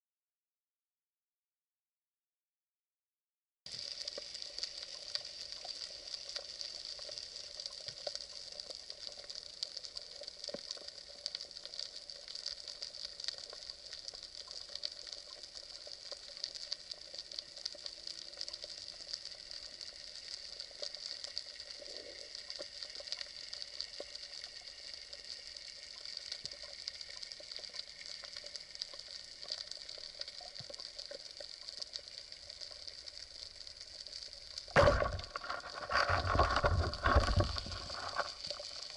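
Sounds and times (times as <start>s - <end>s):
underwater crackle of clicks: 3.7s - 38.9s.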